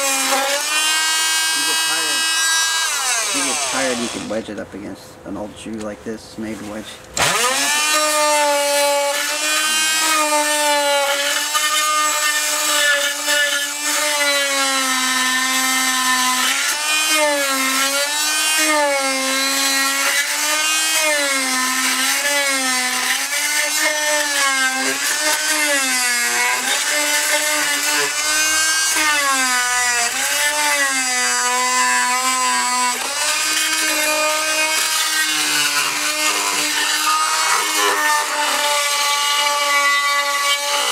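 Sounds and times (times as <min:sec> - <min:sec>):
oscillating multi-tool grinding mortar: 0:00.0 - 0:04.5, 0:07.2 - 0:40.9.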